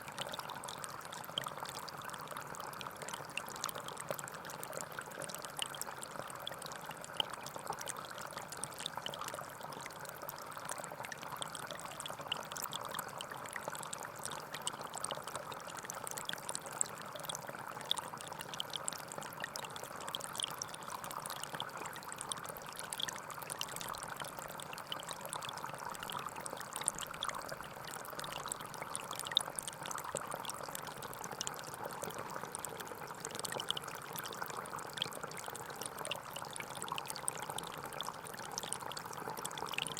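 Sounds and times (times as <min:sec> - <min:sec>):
small splashes and droplet ticks: 0:00.0 - 0:39.9.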